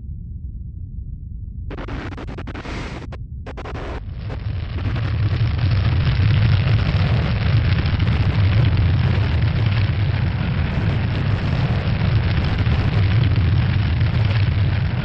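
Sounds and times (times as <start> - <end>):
deep rumble with hiss: 0.0 - 15.0.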